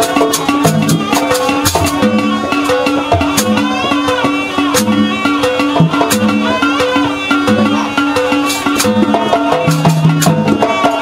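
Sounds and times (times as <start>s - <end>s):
drum and cymbal strokes: 0.0s - 11.0s.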